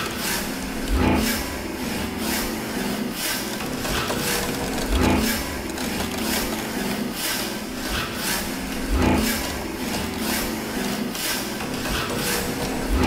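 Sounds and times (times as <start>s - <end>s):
rhythmic scraping and rubbing: 0.0s - 13.0s.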